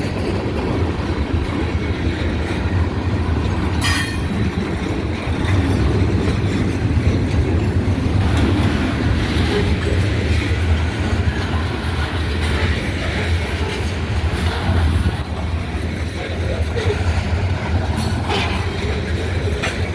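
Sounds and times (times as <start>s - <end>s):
freight train rolling past: 0.0s - 19.9s
wheel clatter on rails: 0.0s - 19.9s.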